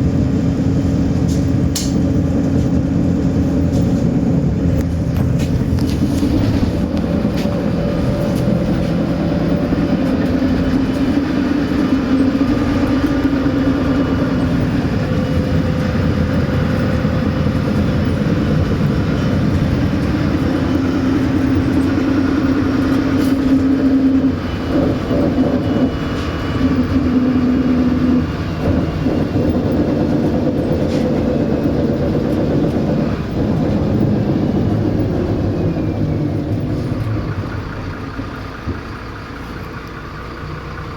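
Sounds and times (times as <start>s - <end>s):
bus engine running: 0.0s - 40.9s
road and tyre noise: 0.0s - 40.9s.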